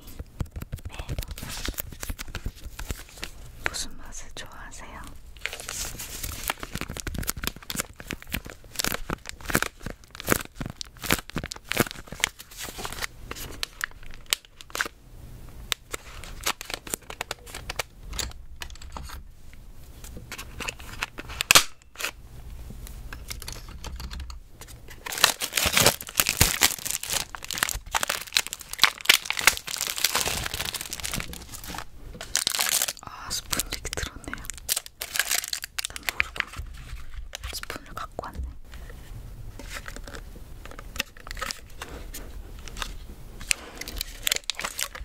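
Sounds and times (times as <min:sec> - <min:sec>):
plastic clicks and crinkles: 0:00.0 - 0:03.8, 0:05.4 - 0:15.0, 0:15.7 - 0:19.2, 0:20.0 - 0:22.2, 0:23.1 - 0:38.9, 0:39.6 - 0:45.0.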